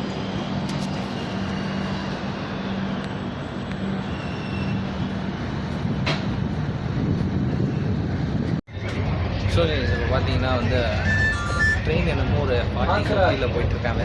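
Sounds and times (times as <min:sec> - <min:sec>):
train rumble inside coach: 0:00.0 - 0:14.0.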